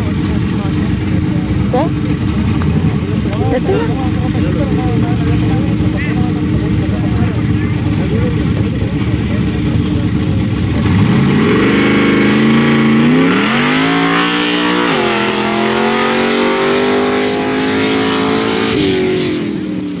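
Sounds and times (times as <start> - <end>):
engine revving at full throttle: 0.0 - 20.0.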